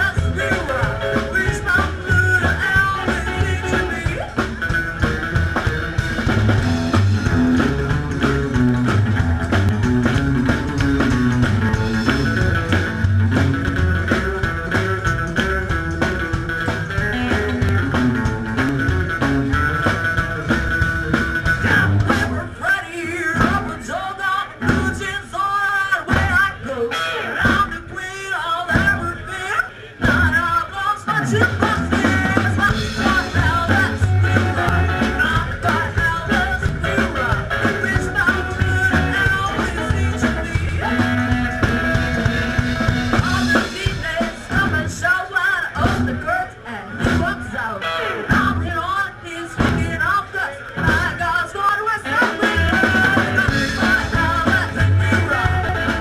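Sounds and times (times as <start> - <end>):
rock and roll band playing: 0.0 - 56.0.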